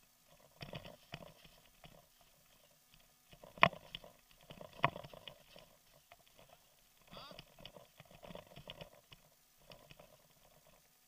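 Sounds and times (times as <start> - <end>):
bicycle rattling on dirt road: 0.0 - 11.0.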